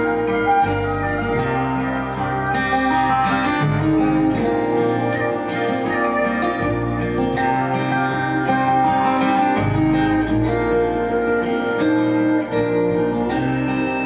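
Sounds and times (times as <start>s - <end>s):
instrumental guitar song over speakers: 0.0s - 14.0s.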